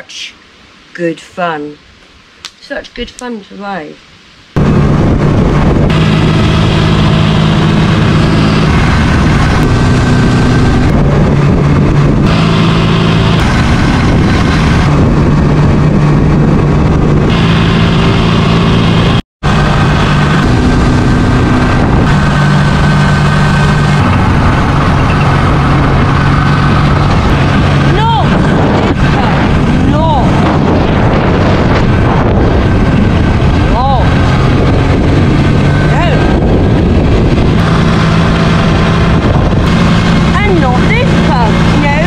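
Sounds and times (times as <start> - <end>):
motorcycle engine revving: 4.6 - 42.0.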